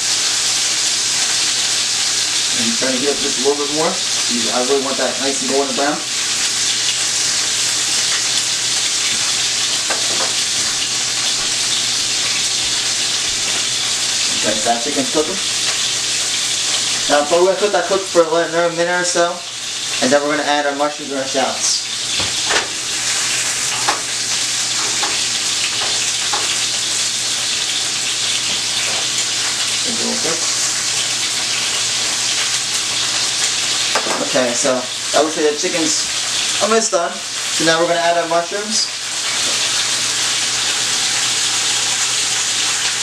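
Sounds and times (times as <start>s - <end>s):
chicken frying in oil: 0.0s - 43.0s.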